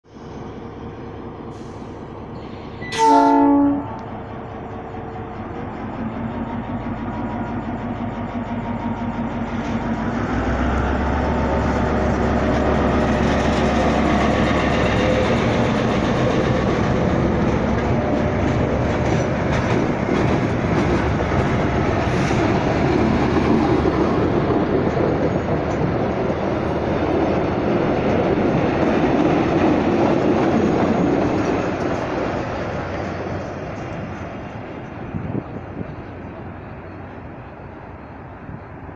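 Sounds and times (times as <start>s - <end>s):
locomotive engine droning: 0.1s - 38.9s.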